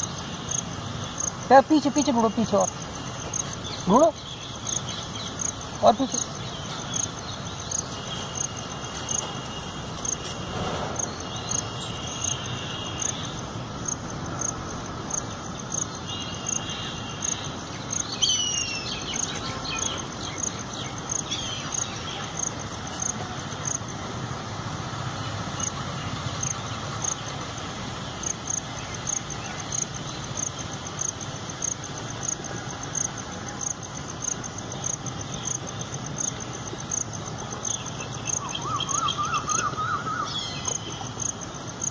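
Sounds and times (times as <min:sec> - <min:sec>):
birds calling: 0:00.0 - 0:24.0, 0:25.1 - 0:41.9
insect chirping: 0:00.0 - 0:41.9.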